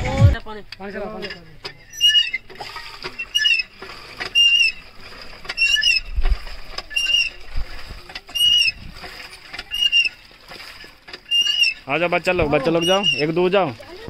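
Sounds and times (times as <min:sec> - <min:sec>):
pump handle squeaking: 0:00.7 - 0:14.0
water splashing into metal bucket: 0:01.2 - 0:14.0.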